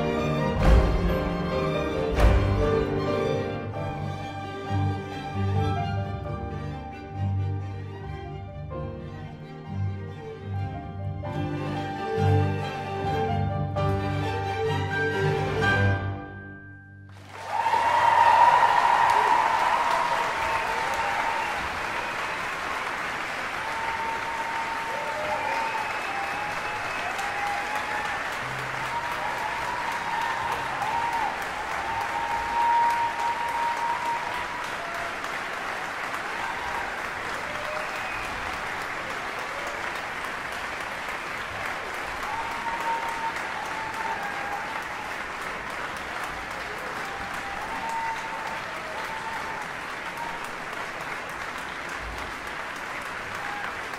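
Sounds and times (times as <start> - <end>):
audience applauding: 0.0 - 6.6, 17.1 - 53.9.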